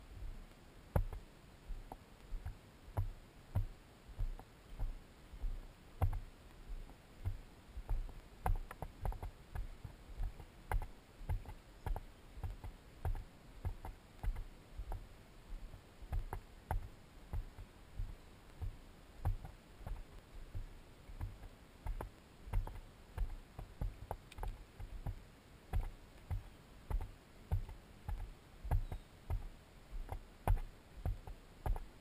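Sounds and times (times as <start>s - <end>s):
footsteps on dirt trail: 0.9s - 31.9s.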